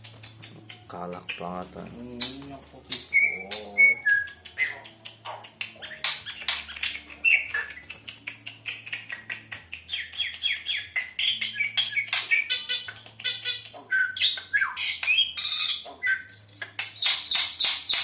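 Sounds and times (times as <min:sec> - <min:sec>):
myna chirping and squawking: 0:00.0 - 0:18.0.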